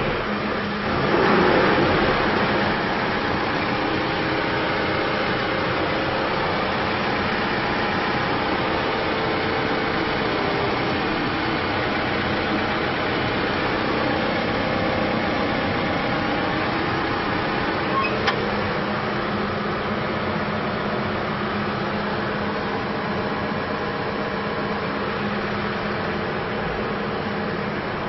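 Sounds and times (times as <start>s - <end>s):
diesel engine running steadily: 0.0s - 28.0s.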